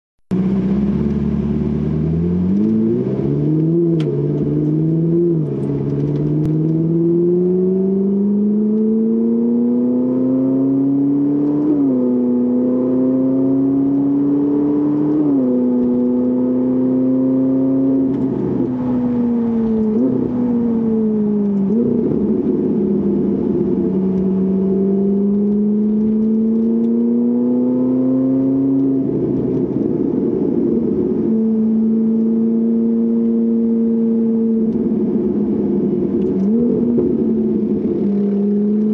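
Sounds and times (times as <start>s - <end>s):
sports car engine accelerating: 0.3s - 38.9s.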